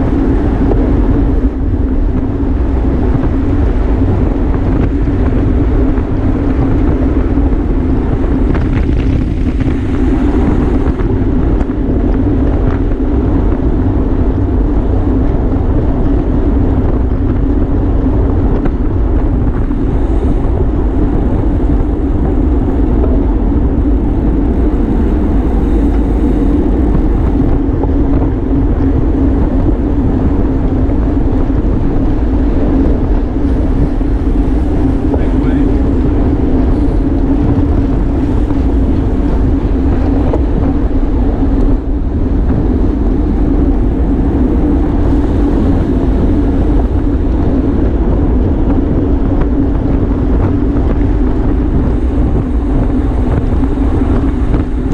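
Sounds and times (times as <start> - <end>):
bicycle tyre and drivetrain hum: 0.0 - 54.9
wind rush: 0.0 - 54.9.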